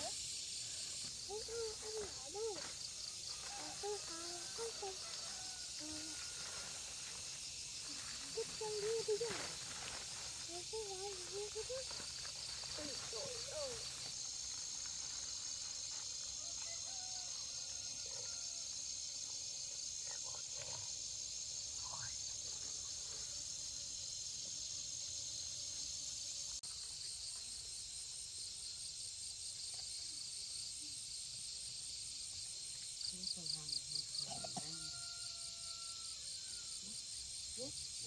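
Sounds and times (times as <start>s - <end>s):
insects shrilling: 0.0s - 38.0s
rapidly pulsing insect trill: 0.0s - 38.0s.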